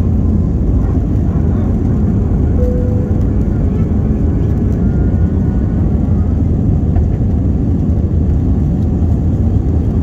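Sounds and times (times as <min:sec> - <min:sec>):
airplane engines rumbling in cabin: 0:00.0 - 0:10.0.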